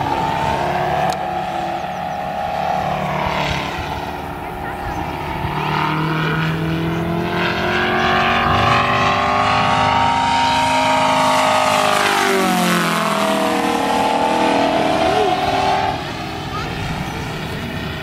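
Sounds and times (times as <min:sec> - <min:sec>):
model airplane radial engine: 0:00.0 - 0:18.0.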